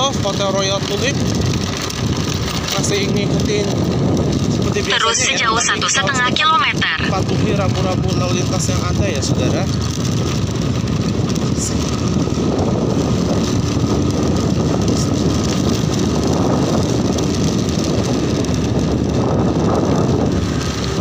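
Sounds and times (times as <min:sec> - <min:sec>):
motorcycle engine and road noise: 0:00.0 - 0:05.0, 0:07.1 - 0:21.0
wind rumbling on microphone: 0:00.0 - 0:21.0.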